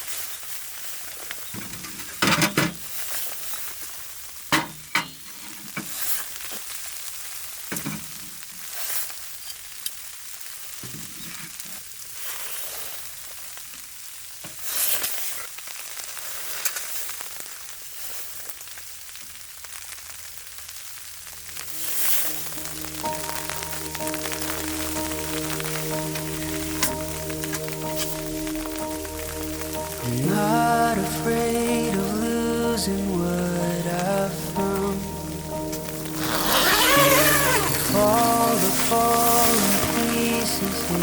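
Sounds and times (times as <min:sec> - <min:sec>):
food sizzling in a pan: 0:02.8 - 0:41.0.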